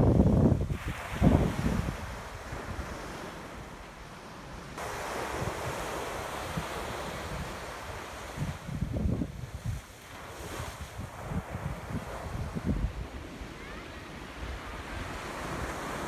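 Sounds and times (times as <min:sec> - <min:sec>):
ocean surf washing on beach: 0:00.0 - 0:16.0
wind gusting on microphone: 0:00.0 - 0:16.0.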